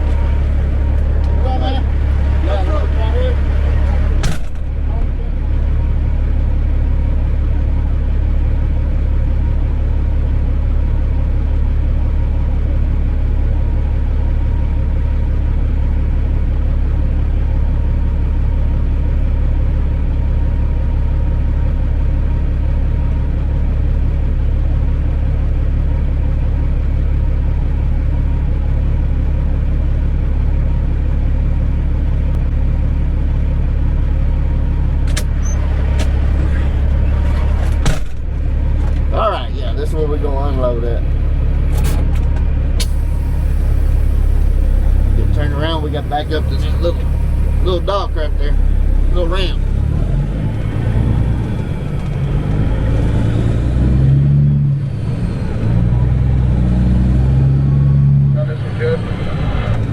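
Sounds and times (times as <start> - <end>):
truck diesel engine droning: 0.0 - 59.9.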